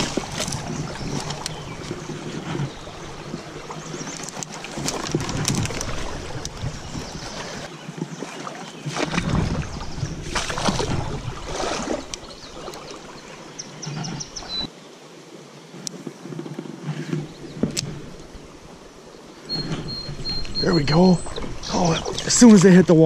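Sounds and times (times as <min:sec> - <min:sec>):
water splashing in a stream: 0:00.0 - 0:14.8, 0:16.8 - 0:23.0.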